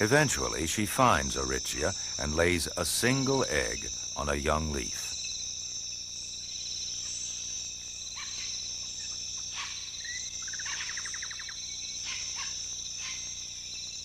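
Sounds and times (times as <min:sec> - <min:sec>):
insects shrilling: 0:00.0 - 0:14.0.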